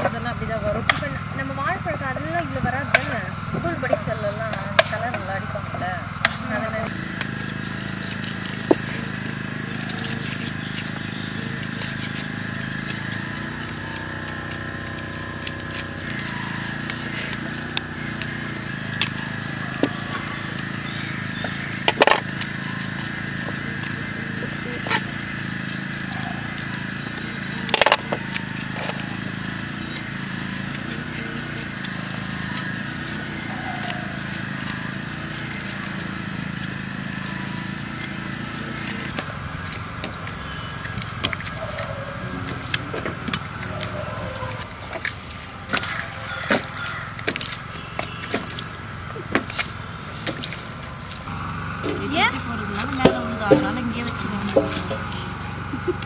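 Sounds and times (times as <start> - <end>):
steady background hum: 0.0 - 56.0
knife cutting banana stems: 6.2 - 56.0.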